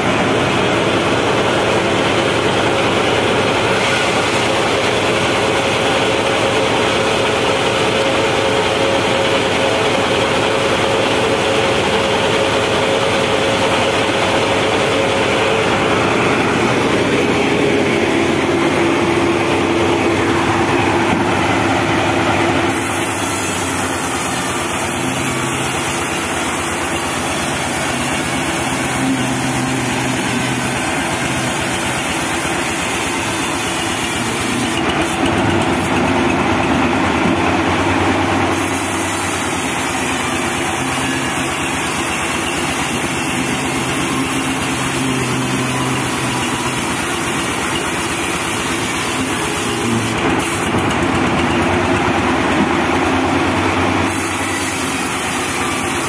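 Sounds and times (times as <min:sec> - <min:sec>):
band sawmill running: 0:00.0 - 0:56.0.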